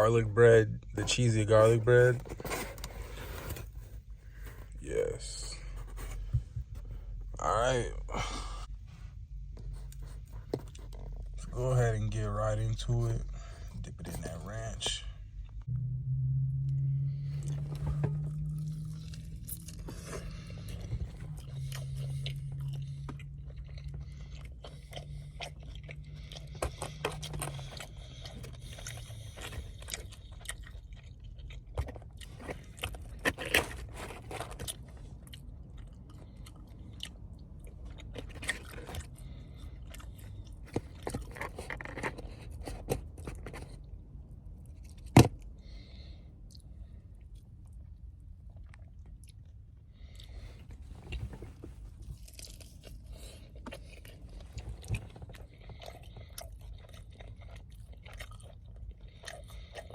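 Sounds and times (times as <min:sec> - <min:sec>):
low steady hum: 0:00.0 - 0:59.9
chewing and crunching: 0:09.4 - 0:15.7, 0:17.2 - 0:59.9.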